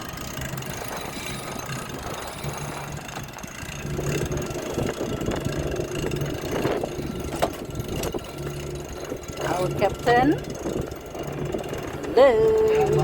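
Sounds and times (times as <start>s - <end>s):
boat engine humming: 0.0s - 13.0s
noisy rumble: 0.0s - 13.0s.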